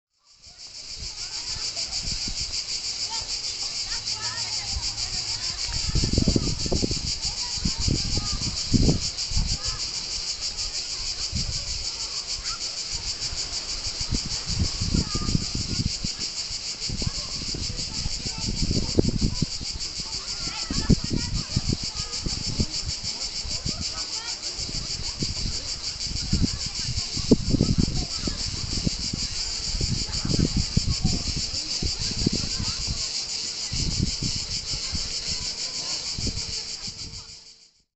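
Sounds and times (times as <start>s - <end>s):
cicadas buzzing: 0.2s - 37.9s.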